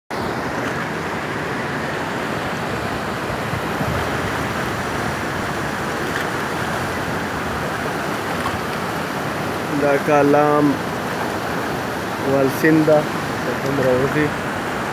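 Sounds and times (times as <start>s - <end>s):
river rushing over rocks: 0.1s - 14.9s.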